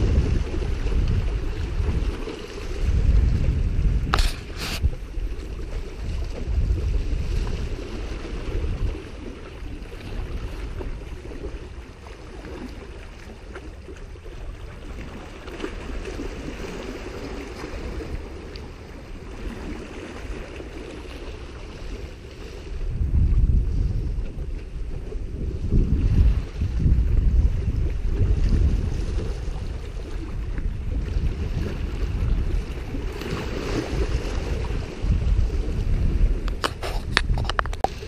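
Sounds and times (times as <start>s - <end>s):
small waves washing on rocks: 0.0s - 38.0s
wind buffeting microphone: 0.0s - 38.0s.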